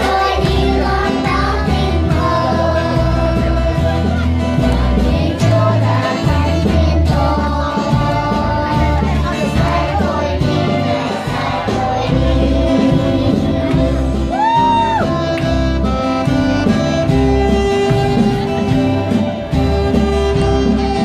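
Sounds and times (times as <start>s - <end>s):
children's choir singing: 0.0s - 17.1s
instrumental accompaniment: 0.0s - 21.0s.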